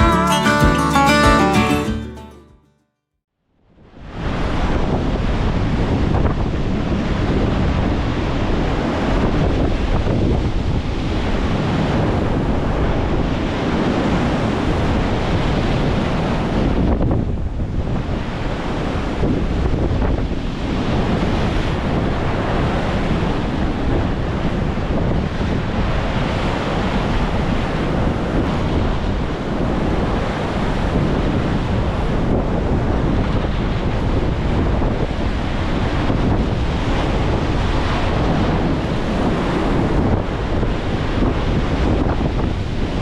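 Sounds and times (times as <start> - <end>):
rough sea surf crashing: 4.0 - 43.0
wind buffeting microphone: 4.0 - 43.0.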